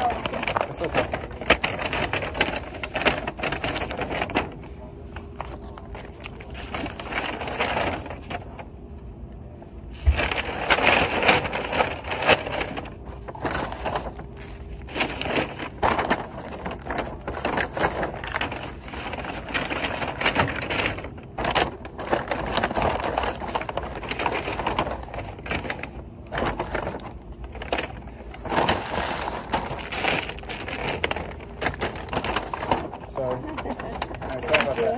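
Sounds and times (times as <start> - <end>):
paper bags rustling: 0.0 - 8.9, 9.8 - 34.9.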